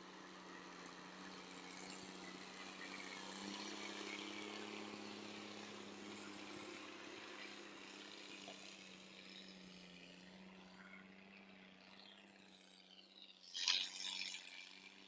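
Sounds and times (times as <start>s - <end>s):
faint engine humming: 0.0s - 15.0s.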